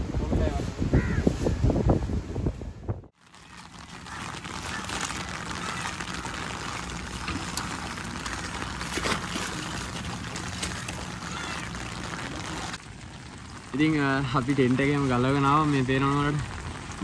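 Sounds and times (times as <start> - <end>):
heavy rain falling: 3.2 - 17.0
sharp raindrop hits: 3.2 - 17.0.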